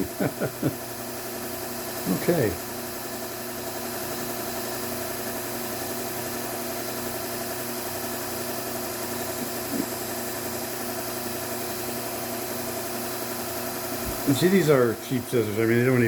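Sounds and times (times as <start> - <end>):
belt sander running: 0.0 - 16.0.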